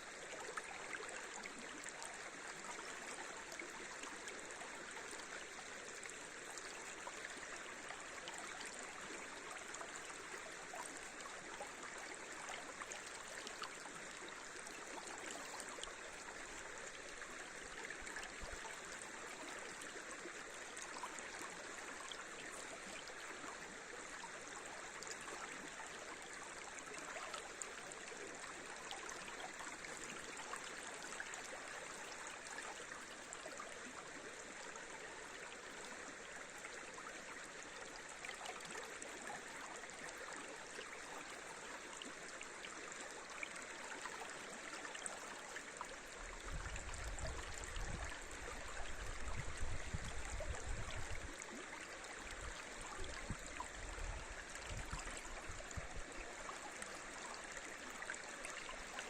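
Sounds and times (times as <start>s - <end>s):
river water flowing over riffles: 0.0s - 59.0s.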